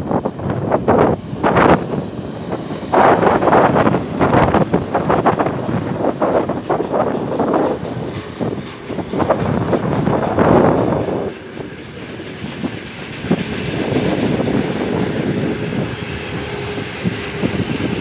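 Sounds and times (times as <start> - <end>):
freight train rolling past: 0.0 - 18.0
wind buffeting microphone: 0.0 - 18.0
wheels clicking over rail joints: 0.1 - 18.0.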